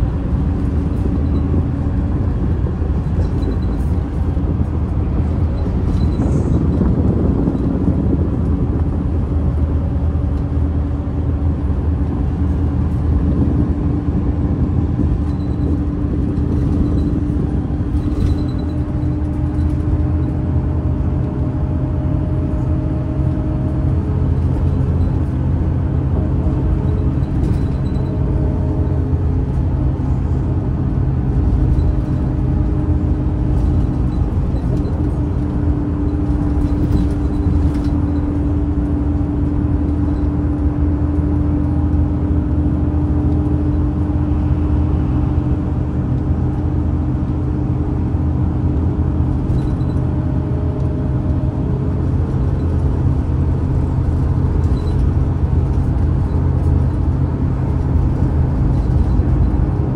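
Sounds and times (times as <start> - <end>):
bus engine hum: 0.0 - 59.9
road noise rumble: 0.0 - 59.9.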